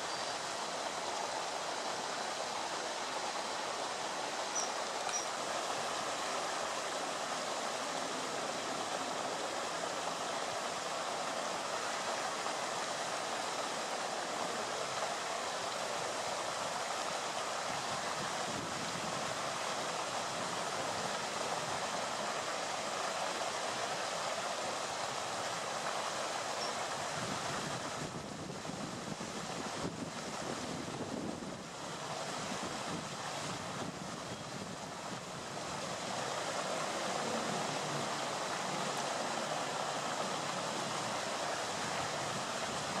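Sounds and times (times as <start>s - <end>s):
rushing flowing water: 0.0s - 43.0s.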